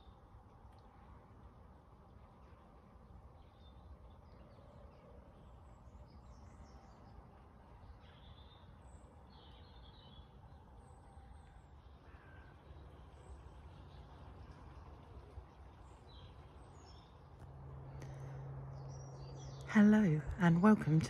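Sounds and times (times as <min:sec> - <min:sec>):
distant bird calls: 0:00.0 - 0:21.0
steady low rumble: 0:00.0 - 0:21.0.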